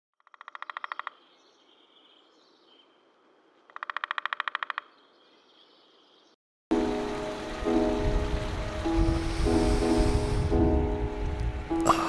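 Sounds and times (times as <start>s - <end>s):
outdoor background noise: 0.2s - 12.0s.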